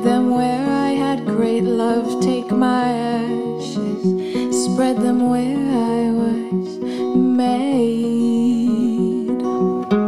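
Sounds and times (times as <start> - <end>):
acoustic guitar: 0.0 - 10.0
woman singing: 0.0 - 10.0.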